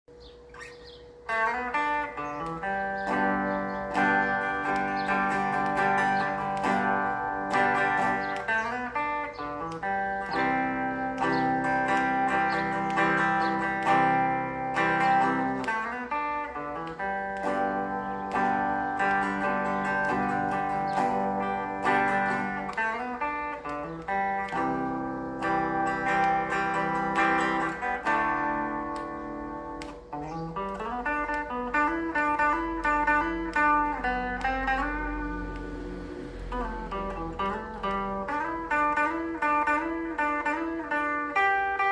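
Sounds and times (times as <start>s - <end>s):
clean electric guitar melody: 0.1s - 41.9s.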